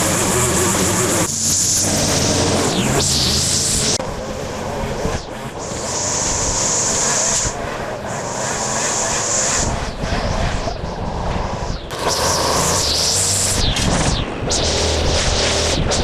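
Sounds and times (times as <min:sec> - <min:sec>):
machinery engine running: 0:00.0 - 0:10.0, 0:10.8 - 0:16.0.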